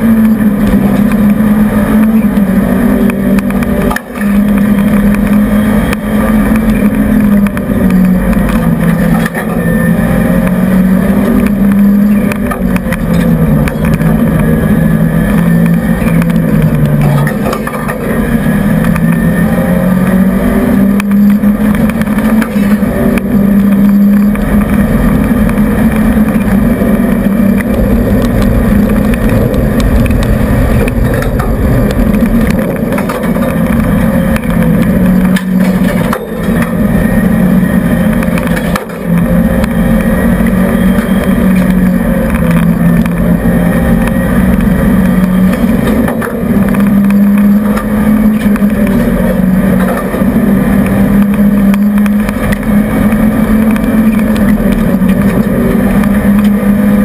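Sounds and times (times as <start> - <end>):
car engine at high revs: 0.0 - 57.0.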